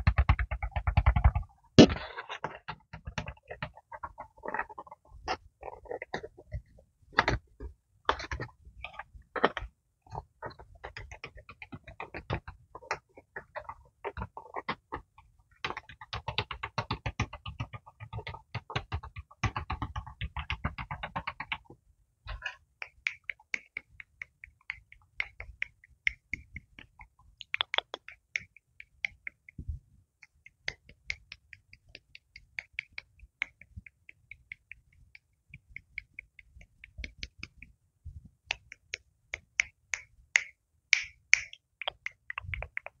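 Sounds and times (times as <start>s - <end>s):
fingers flicking at microphone: 0.0s - 43.0s.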